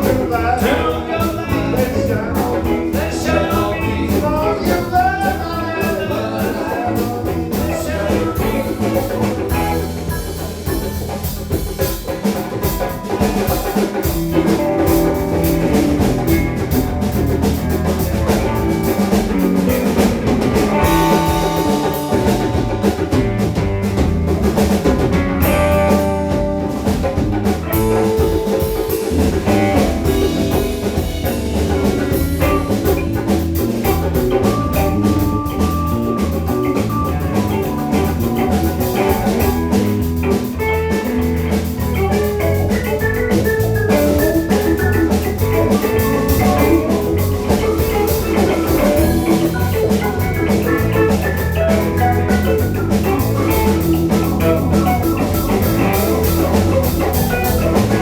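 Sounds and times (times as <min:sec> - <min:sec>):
bass guitar: 0:00.0 - 0:58.0
drum kit beat: 0:00.0 - 0:58.0
electric guitar: 0:00.0 - 0:58.0.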